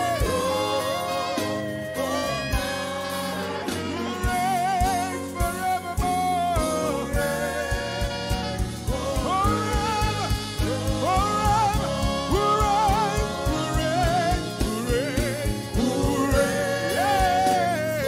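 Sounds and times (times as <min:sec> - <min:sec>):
bass guitar: 0:00.0 - 0:18.0
group of singers: 0:00.0 - 0:18.0
lead singer with vibrato: 0:00.0 - 0:18.0
steady drum beat: 0:00.0 - 0:18.0.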